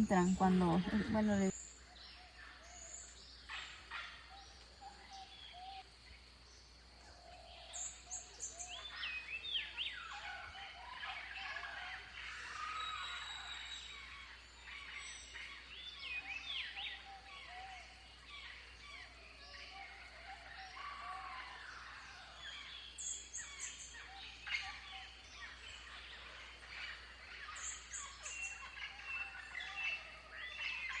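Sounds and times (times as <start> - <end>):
birds chirping and calling: 0.0 - 5.8, 7.2 - 31.0.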